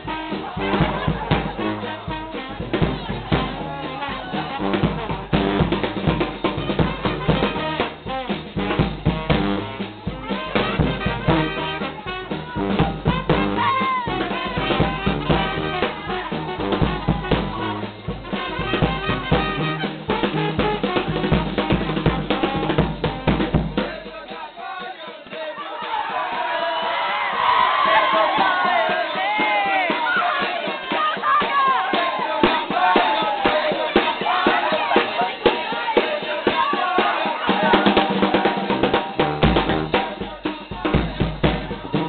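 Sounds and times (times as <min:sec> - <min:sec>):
bass drum and snare beat: 0:00.0 - 0:42.0
brass band playing: 0:00.0 - 0:42.0
crowd noise: 0:00.0 - 0:42.0.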